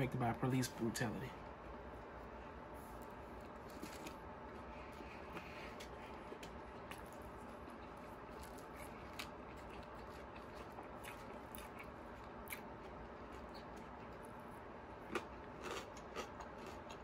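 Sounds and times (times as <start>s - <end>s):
person chewing: 2.0s - 17.0s.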